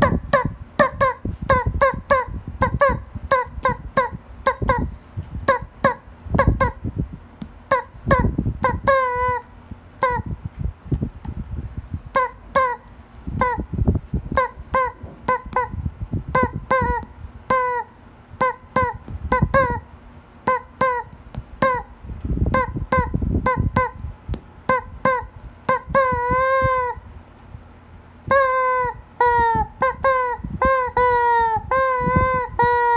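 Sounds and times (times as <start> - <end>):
rubber chicken toy squeaks: 0.0 - 6.8, 7.7 - 10.3, 12.1 - 24.0, 24.7 - 32.9.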